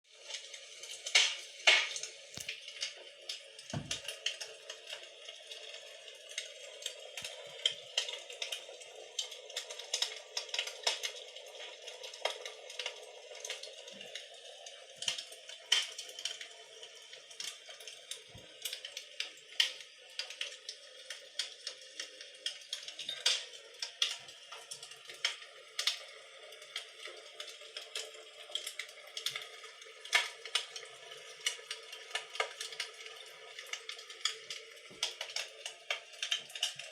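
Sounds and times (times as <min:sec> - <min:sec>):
fire crackling pops and snaps: 0:00.9 - 0:14.4, 0:15.0 - 0:36.9.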